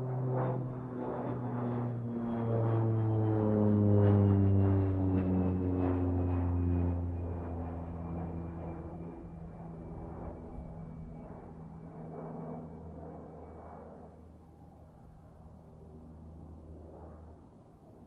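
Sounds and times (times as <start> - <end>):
propeller plane droning: 0.0 - 18.0.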